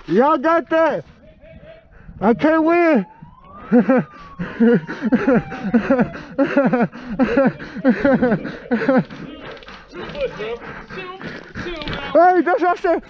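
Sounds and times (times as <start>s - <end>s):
man laughing breathily: 1.1s - 2.4s, 3.6s - 13.0s.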